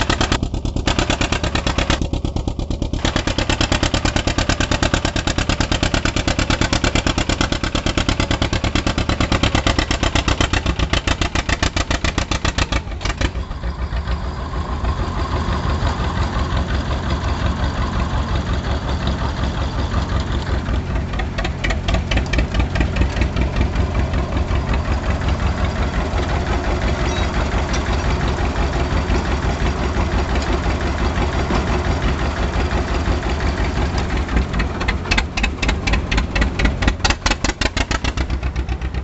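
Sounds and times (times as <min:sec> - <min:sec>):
tractor engine chugging: 0:00.0 - 0:39.0.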